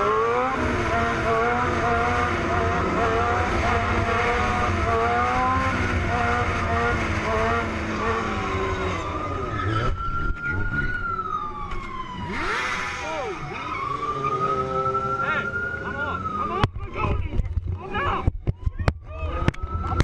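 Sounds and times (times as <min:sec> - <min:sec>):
motorcycle engines at speed: 0:00.0 - 0:20.0
police siren wailing: 0:00.0 - 0:20.0.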